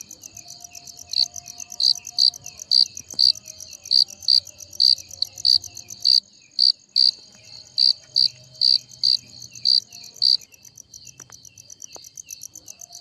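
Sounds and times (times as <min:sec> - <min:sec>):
crickets chirping: 0:00.0 - 0:13.0
loud cricket chirping: 0:00.0 - 0:13.0.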